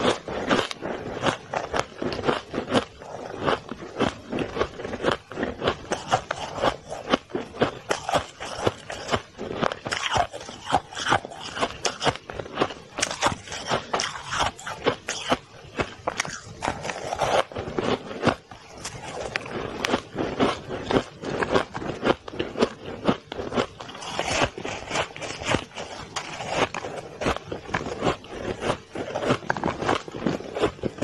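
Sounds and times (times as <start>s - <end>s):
shaved ice being chewed: 0.0s - 31.0s.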